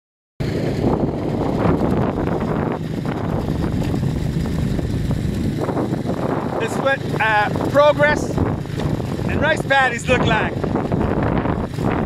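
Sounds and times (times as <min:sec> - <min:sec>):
motor scooter engine running: 0:00.4 - 0:12.0
wind buffeting microphone: 0:00.4 - 0:12.0.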